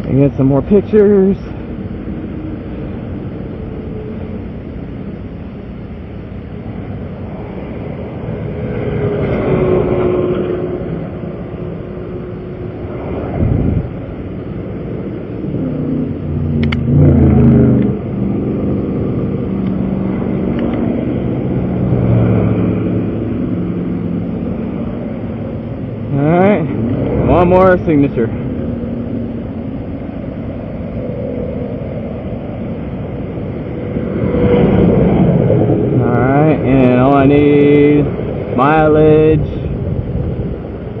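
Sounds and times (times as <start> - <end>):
cars passing on highway: 0.0 - 41.0.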